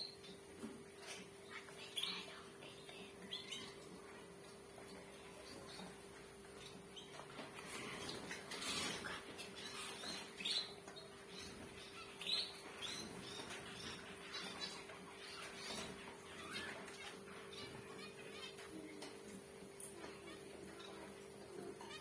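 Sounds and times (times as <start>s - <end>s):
faint steady hum: 0.0s - 22.0s
finches chirping: 0.0s - 22.0s.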